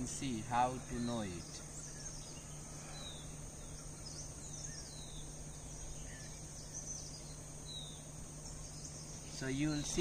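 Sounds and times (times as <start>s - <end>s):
faint low hum: 0.0s - 10.0s
high insect chorus: 0.0s - 10.0s.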